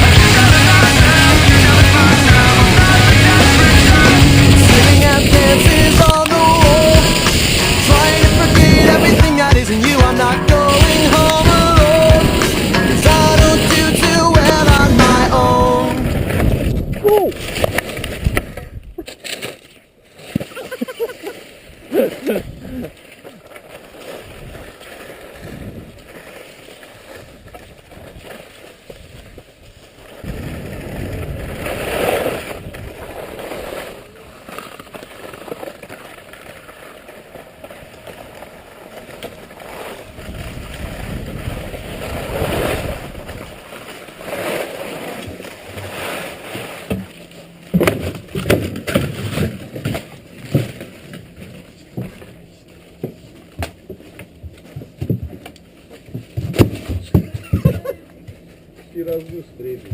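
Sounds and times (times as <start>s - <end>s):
skis scraping over snow: 0.0s - 47.6s, 58.8s - 59.9s.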